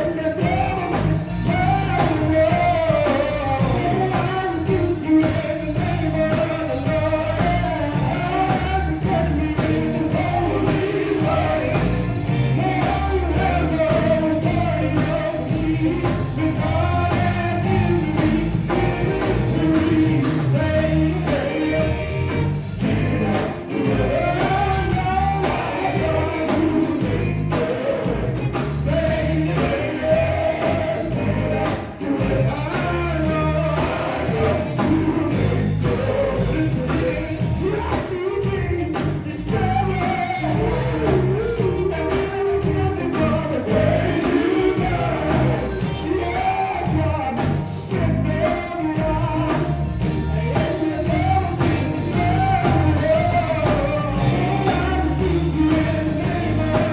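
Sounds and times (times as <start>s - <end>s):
band playing: 0.0s - 56.9s
male vocal group singing: 0.0s - 56.9s.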